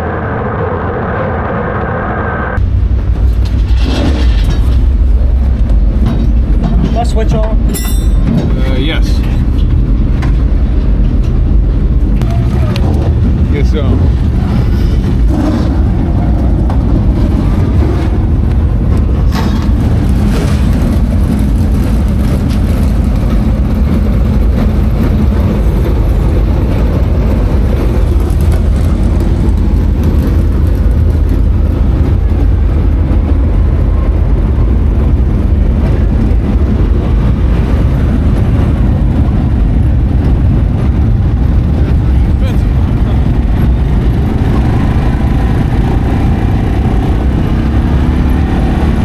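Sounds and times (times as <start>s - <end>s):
race car engine running: 0.0s - 49.0s.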